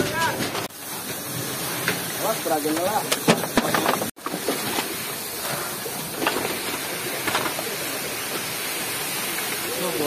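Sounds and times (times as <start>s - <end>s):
fire hose spraying water: 0.0s - 10.0s.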